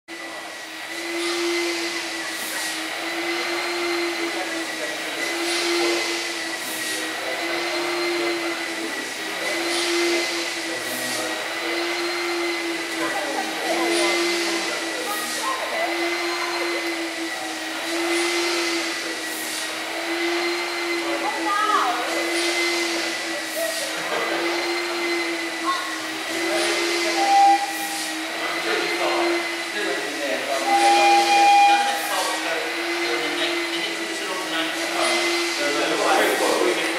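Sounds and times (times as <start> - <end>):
generating machinery humming: 0.1 - 36.9
steam hiss: 0.2 - 36.9.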